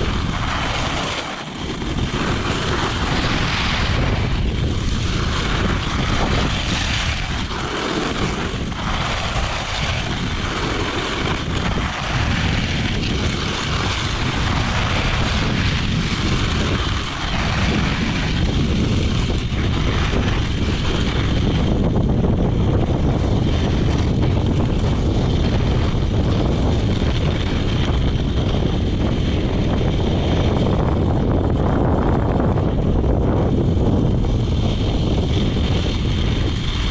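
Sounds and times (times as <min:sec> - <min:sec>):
skates carving snow: 0:00.0 - 0:36.9
wind rushing over microphone: 0:00.0 - 0:36.9.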